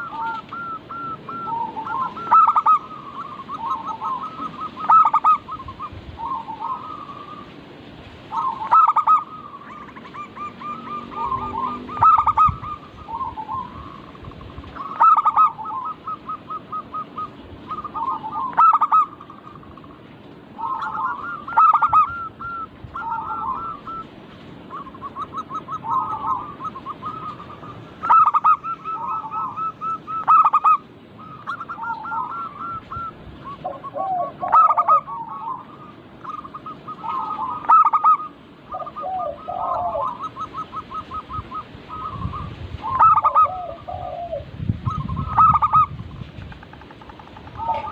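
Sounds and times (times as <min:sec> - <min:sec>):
doves cooing: 0:00.0 - 0:07.6, 0:08.2 - 0:47.9.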